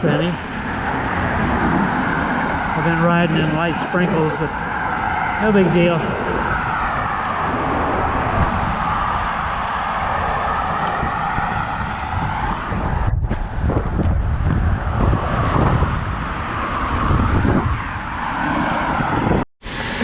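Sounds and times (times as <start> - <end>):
car traffic: 0.0 - 20.0
wind buffeting microphone: 0.0 - 20.0.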